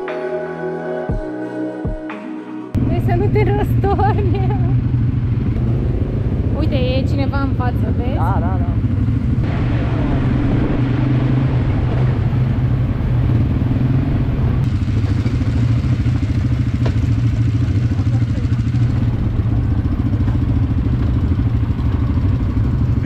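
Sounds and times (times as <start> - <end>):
quad bike engine running: 2.8 - 23.0.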